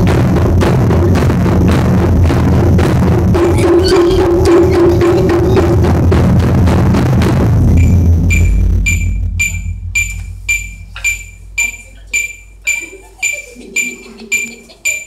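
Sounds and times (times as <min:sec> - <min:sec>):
taiko drums ringing: 0:00.0 - 0:15.0.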